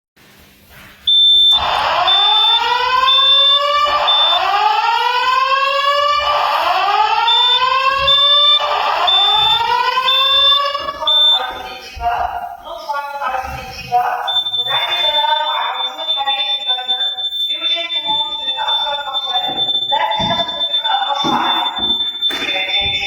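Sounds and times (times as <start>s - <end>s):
high steady beep: 1.1s - 5.0s, 5.6s - 12.0s, 14.2s - 23.0s
fire alarm whoop tone: 1.1s - 12.0s, 14.2s - 23.0s.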